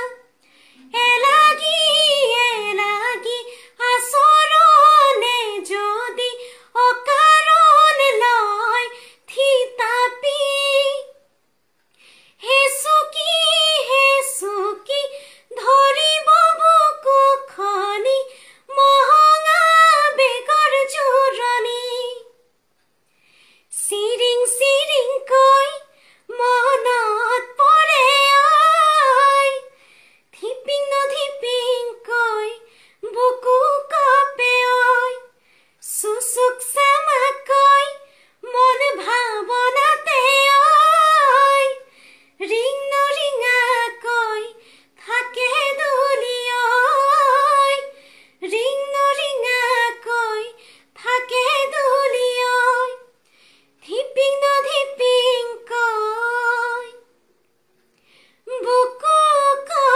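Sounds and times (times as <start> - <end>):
woman singing unaccompanied: 0.0 - 11.3, 12.4 - 22.4, 23.7 - 53.1, 53.8 - 57.1, 58.5 - 59.9.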